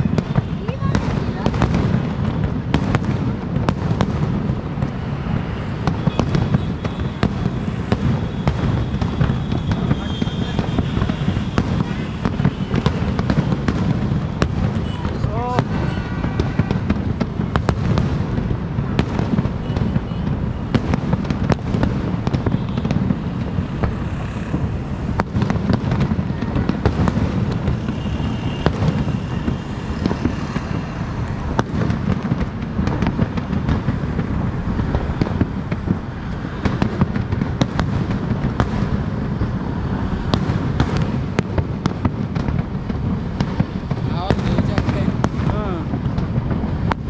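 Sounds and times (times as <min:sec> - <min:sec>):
fireworks bangs and cracks: 0:00.0 - 0:47.0.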